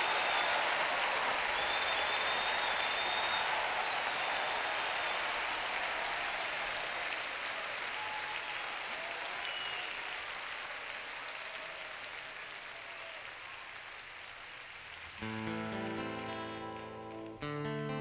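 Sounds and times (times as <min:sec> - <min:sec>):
large audience applauding: 0:00.0 - 0:18.0.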